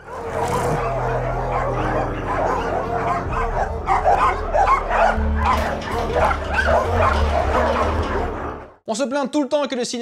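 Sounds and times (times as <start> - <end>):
pack of dogs barking and yelping: 0.0 - 8.8.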